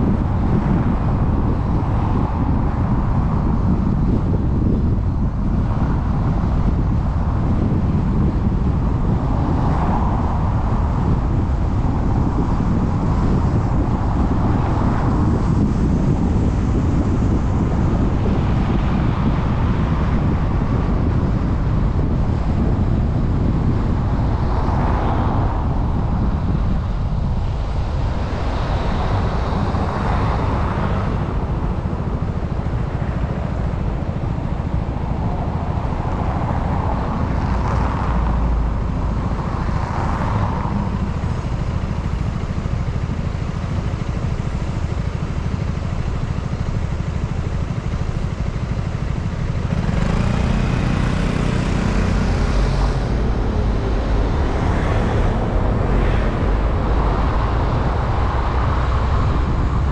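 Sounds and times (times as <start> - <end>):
car road and engine rumble: 0.0 - 59.9
passing traffic: 0.0 - 59.9
wind on microphone: 0.0 - 59.9.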